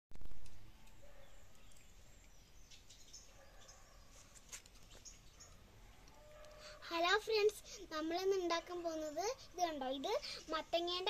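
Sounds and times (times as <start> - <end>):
garden ambience: 0.2 - 11.0.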